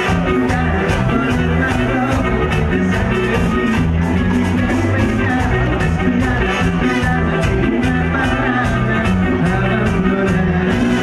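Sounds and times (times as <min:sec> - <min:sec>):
man singing: 0:00.0 - 0:11.0
repeating bass line: 0:00.0 - 0:11.0
steady drum beat: 0:00.0 - 0:11.0.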